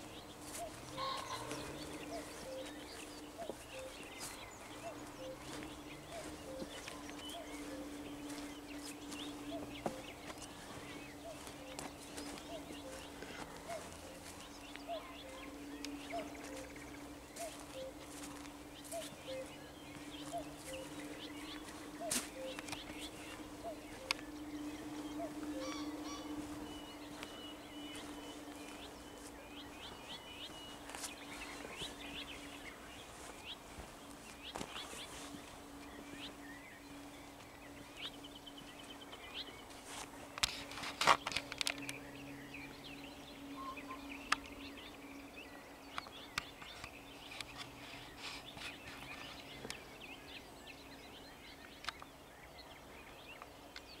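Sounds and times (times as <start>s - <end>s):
faint low hum: 0.0s - 54.0s
songbirds chirping and trilling: 0.0s - 54.0s.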